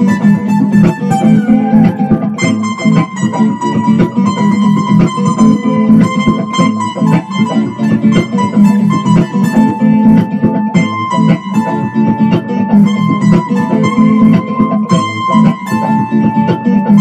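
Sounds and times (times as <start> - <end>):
guitar picking plucked notes: 0.0 - 17.0
pulsing low bass line: 0.0 - 17.0.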